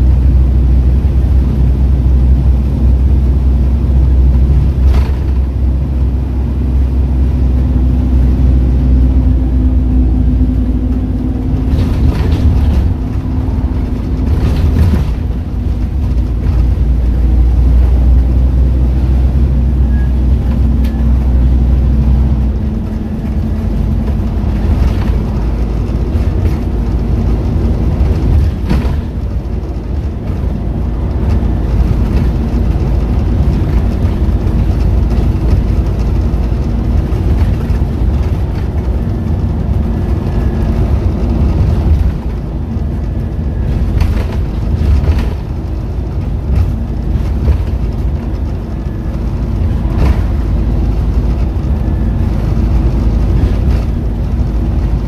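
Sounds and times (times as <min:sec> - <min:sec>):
bus engine running: 0:00.0 - 0:55.0
road and wind noise: 0:00.0 - 0:55.0.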